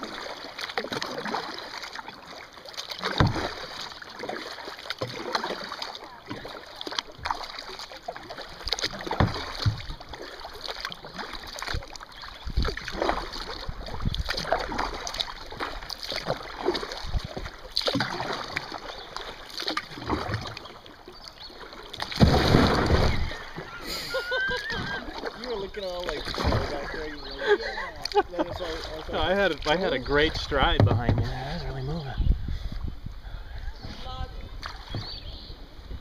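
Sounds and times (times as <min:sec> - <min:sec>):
paddle strokes splashing: 0:00.0 - 0:32.9, 0:33.8 - 0:36.0
water lapping at hull: 0:00.0 - 0:36.0.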